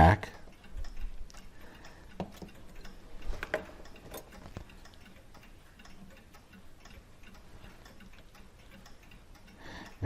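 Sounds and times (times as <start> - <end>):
faint clock ticking: 0.0 - 10.0.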